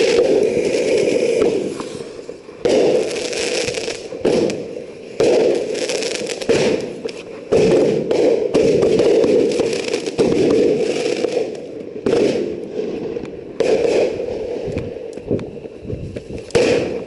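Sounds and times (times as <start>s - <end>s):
fireworks blasts: 0.0s - 17.0s
fireworks hissing and crackling: 0.0s - 17.0s.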